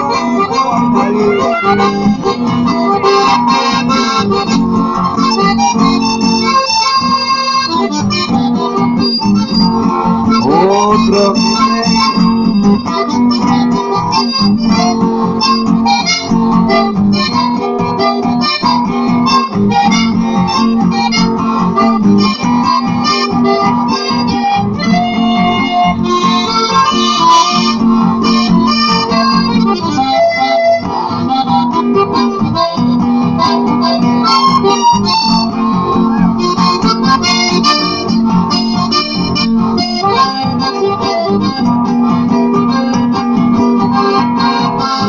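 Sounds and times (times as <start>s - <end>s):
accordion melody: 0.0s - 45.0s
acoustic guitar accompaniment: 0.0s - 45.0s.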